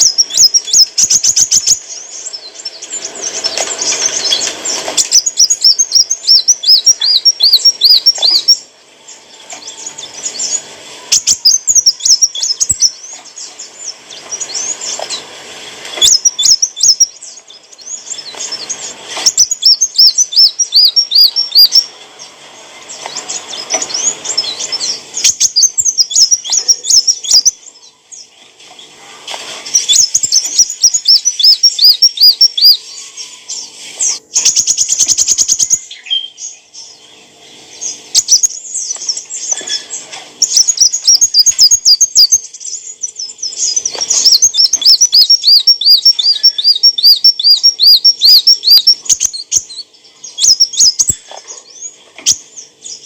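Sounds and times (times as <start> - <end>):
sunbird singing rapid chattering: 0.0 - 28.3, 29.6 - 53.0.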